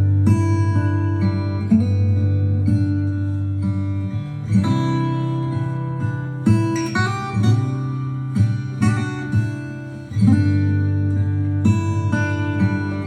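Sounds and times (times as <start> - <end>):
acoustic guitar music with bass: 0.0 - 13.0.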